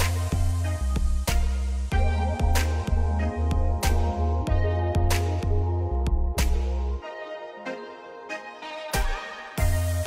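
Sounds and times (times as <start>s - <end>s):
music with beat and deep bass: 0.0s - 10.0s.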